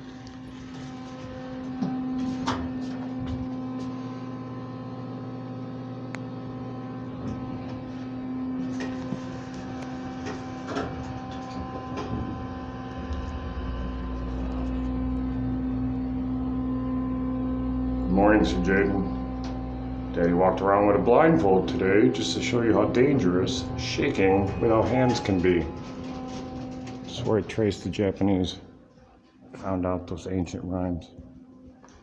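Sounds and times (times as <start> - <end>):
elevator mechanical hum: 0.0 - 32.0.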